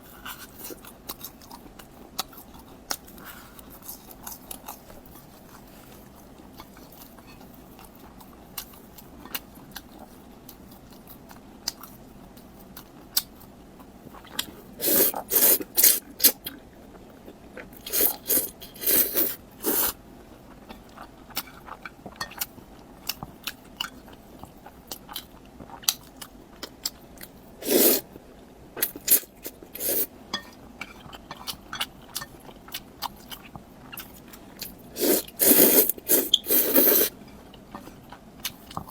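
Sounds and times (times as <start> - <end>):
crunchy chewing: 0.2 - 28.1, 28.8 - 38.9.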